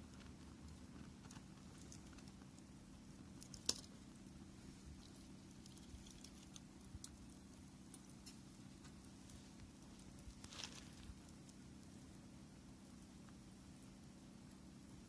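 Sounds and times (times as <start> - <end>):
fire popping: 0.0 - 15.0
wood campfire crackling: 0.0 - 15.0.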